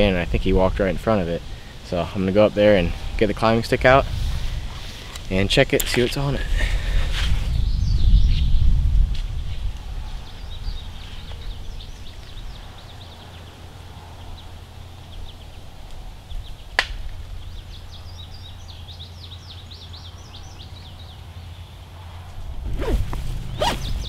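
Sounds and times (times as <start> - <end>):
birds chirping: 0.0 - 8.8, 9.4 - 24.0.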